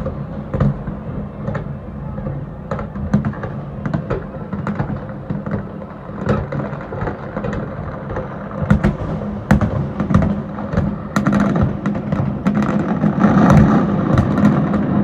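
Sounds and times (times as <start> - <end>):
fireworks booming: 0.0 - 15.0
fireworks popping and crackling: 0.0 - 15.0.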